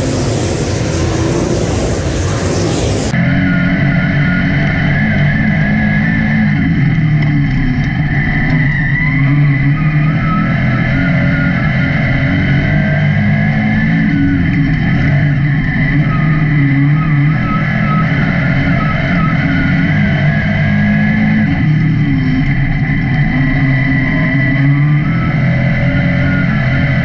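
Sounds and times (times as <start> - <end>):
race car engines at speed: 0.0 - 27.0.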